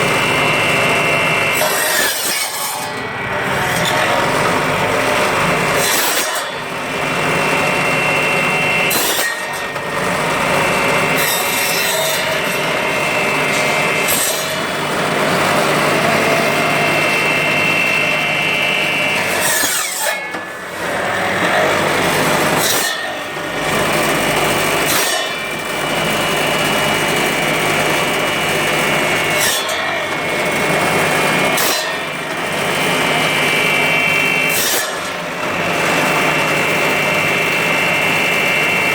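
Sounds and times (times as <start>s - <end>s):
saw cutting through bone: 0.0s - 38.9s.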